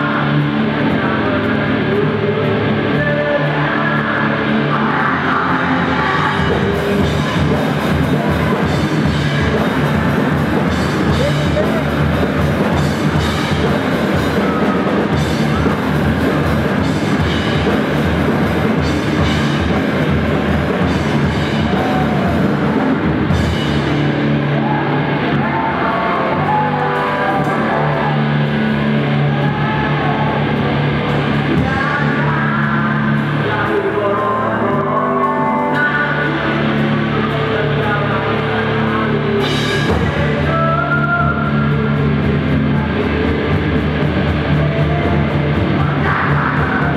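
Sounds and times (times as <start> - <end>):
bass guitar: 0.0 - 46.9
distorted electric guitars: 0.0 - 46.9
fast drum kit: 0.0 - 46.9.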